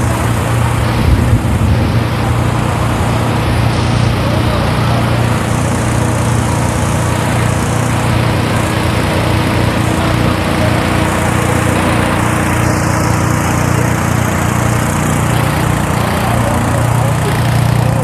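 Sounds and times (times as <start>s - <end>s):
inflator fan running: 0.0s - 18.0s.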